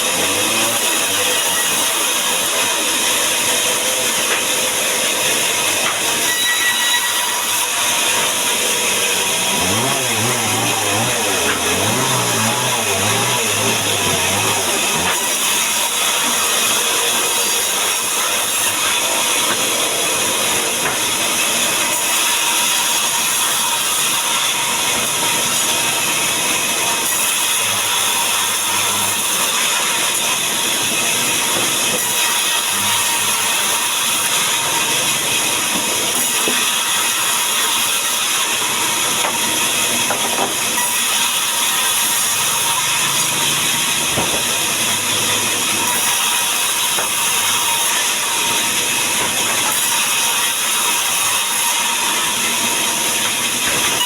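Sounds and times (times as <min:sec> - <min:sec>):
power saw cutting wood: 0:00.0 - 0:54.0.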